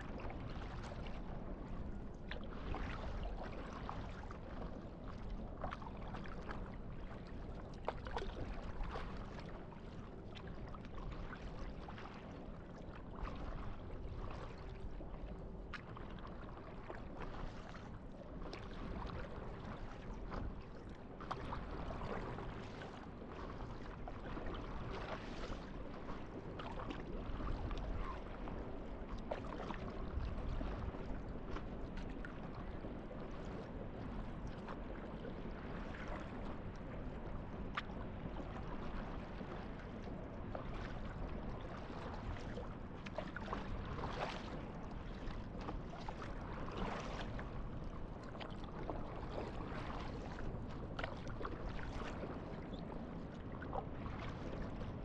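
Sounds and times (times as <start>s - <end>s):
faint low rumble: 0.0s - 55.0s
water lapping against a board: 0.1s - 55.0s.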